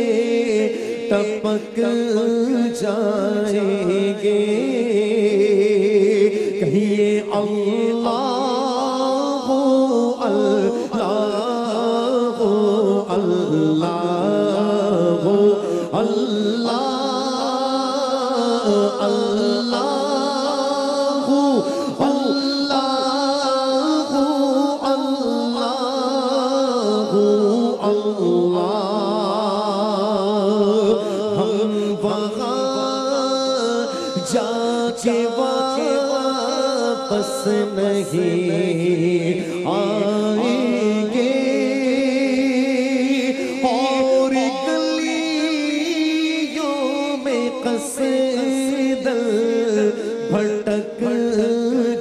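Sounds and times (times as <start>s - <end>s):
man chanting into microphone: 0.0s - 52.0s.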